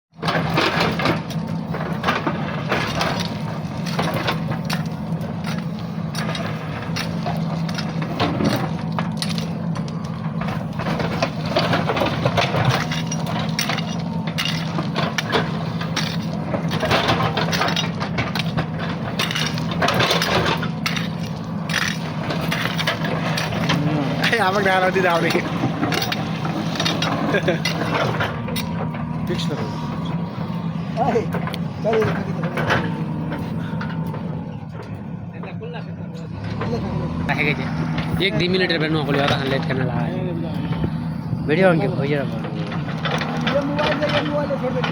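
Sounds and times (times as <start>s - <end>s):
diesel engine under load: 0.1s - 44.9s.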